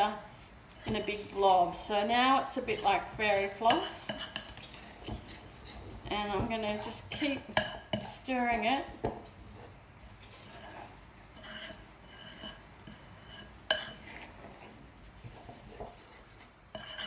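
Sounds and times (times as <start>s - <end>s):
spoon stirring powder in bowl: 0.0s - 17.0s.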